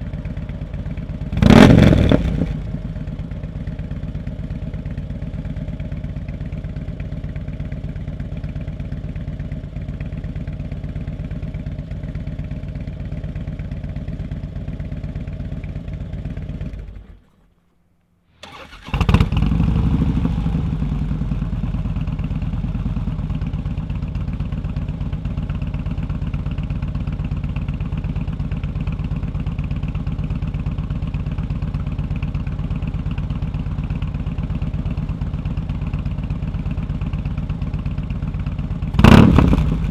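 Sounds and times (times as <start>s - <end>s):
motorcycle engine idling: 0.0s - 17.4s, 18.4s - 39.9s
motorcycle engine starting: 0.0s - 17.4s, 18.4s - 39.9s.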